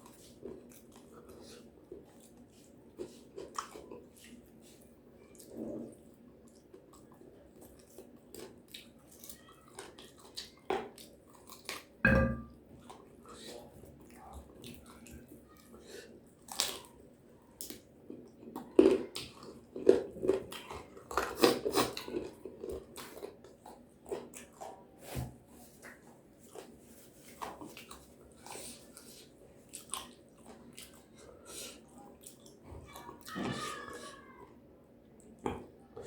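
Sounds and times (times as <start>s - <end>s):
crunchy chewing: 0.0s - 12.0s, 12.7s - 33.7s.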